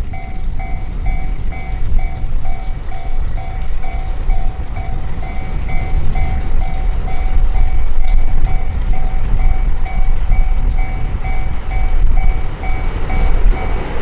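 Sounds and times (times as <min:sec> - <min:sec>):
level-crossing warning bell: 0:00.0 - 0:14.0
train rumbling past: 0:00.0 - 0:14.0.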